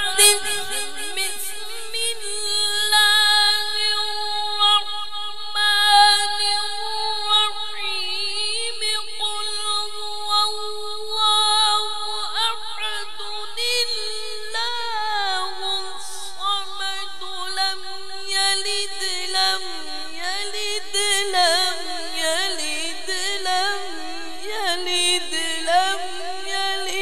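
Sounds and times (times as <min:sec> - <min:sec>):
man reciting melodically: 0:00.0 - 0:27.0.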